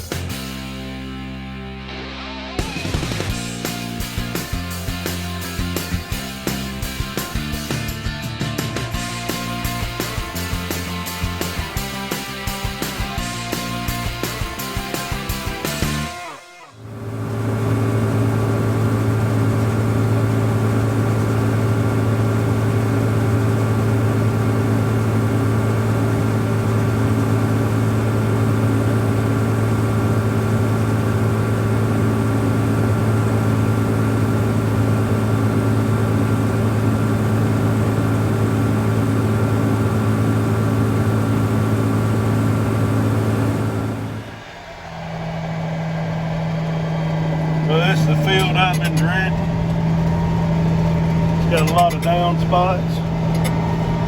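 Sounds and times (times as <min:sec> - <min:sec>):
tractor engine humming: 0:02.6 - 0:54.0.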